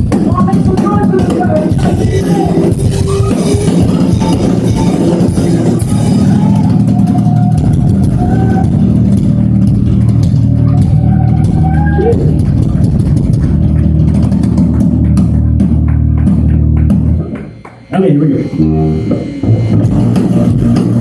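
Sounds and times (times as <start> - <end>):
live band playing bass-heavy music: 0.0 - 21.0.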